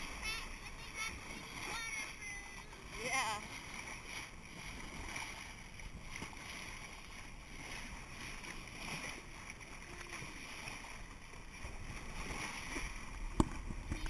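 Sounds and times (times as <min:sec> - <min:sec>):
feet dragging through water: 0:00.0 - 0:14.0
water rushing along a hull: 0:00.0 - 0:14.0.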